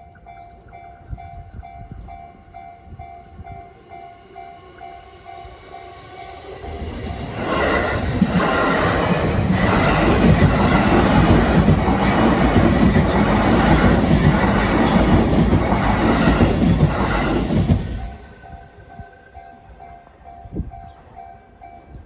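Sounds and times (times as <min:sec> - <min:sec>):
crossing warning bell ringing: 0:00.0 - 0:22.0
train passing: 0:00.0 - 0:22.0.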